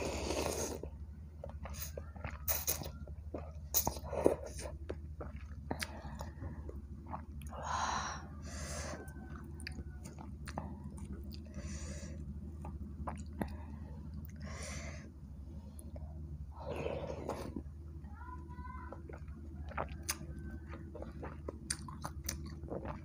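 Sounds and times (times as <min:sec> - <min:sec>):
wet chewing sounds: 0:00.0 - 0:07.6, 0:08.2 - 0:14.8, 0:18.7 - 0:23.0.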